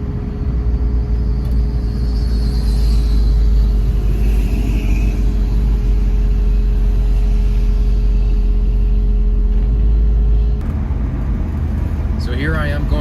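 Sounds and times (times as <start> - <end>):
car engine rumbling: 0.0 - 13.0
road noise: 0.0 - 13.0
wind through open window: 0.0 - 13.0.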